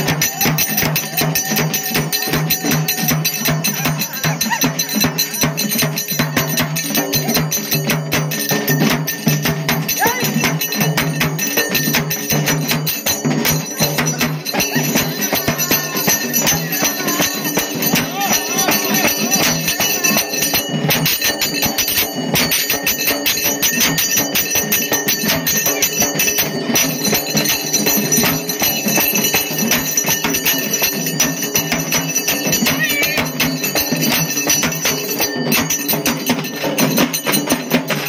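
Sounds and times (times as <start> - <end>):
fast folk drumming: 0.0 - 38.0
ringing bells and jingles: 0.0 - 38.0.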